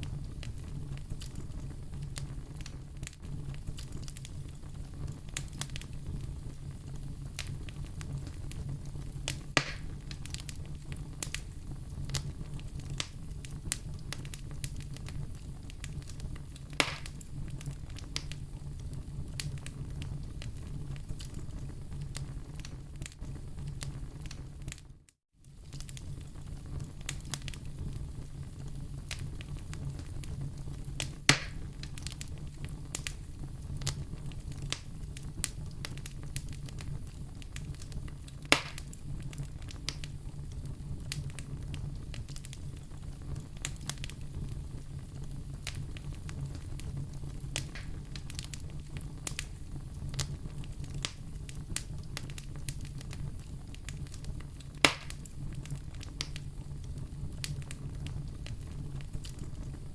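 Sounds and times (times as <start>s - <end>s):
sharp fire pops: 0.0s - 24.9s, 25.5s - 59.9s
wood fire crackling: 0.0s - 59.9s.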